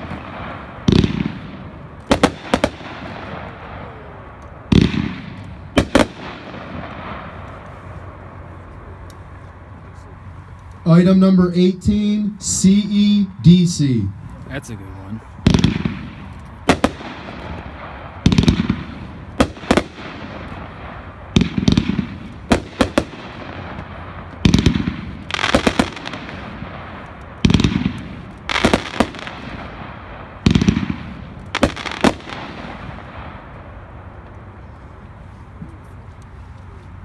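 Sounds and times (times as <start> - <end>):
firework bursting reports: 0.0 - 37.0.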